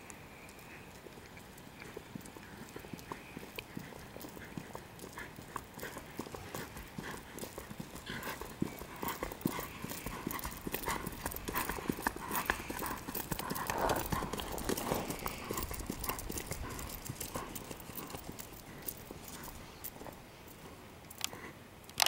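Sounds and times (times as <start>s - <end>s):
horse hooves clopping on gravel: 0.0s - 22.0s.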